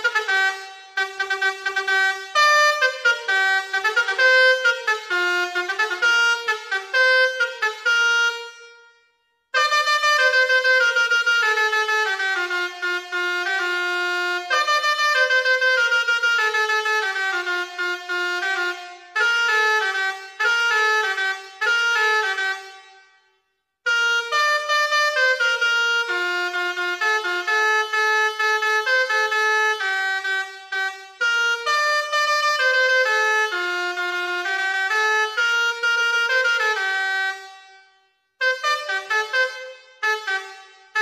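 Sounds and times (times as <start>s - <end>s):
multi-tone bus horn tune: 0.0s - 41.0s.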